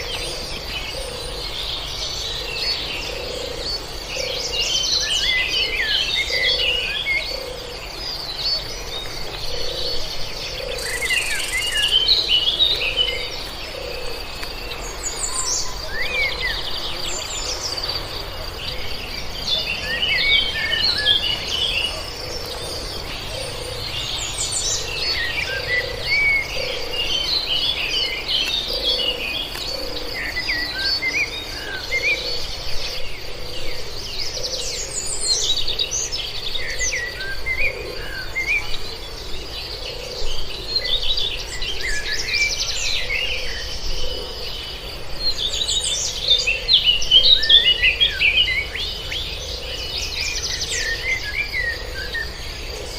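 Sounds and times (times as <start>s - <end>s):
birds chirping and singing: 0.0s - 52.9s.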